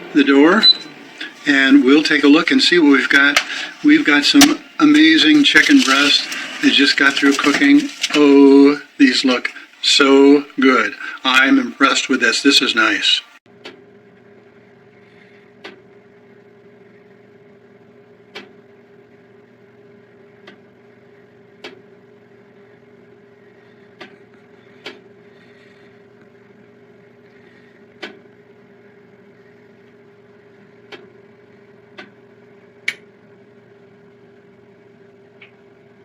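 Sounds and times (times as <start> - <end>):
air fryer oven humming: 0.0 - 36.0.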